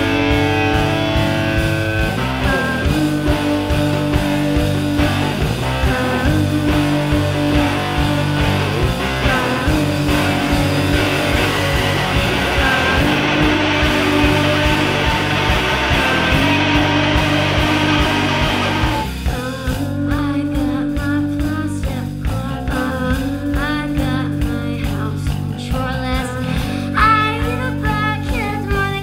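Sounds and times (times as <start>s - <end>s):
bass guitar: 0.0s - 29.0s
distorted electric guitar: 0.0s - 29.0s
drums: 0.0s - 29.0s
person singing: 0.0s - 29.0s.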